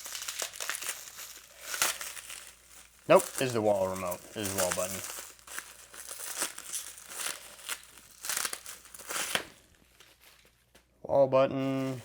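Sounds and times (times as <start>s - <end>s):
packaging crinkling and rustling: 0.0s - 10.9s, 11.6s - 12.0s.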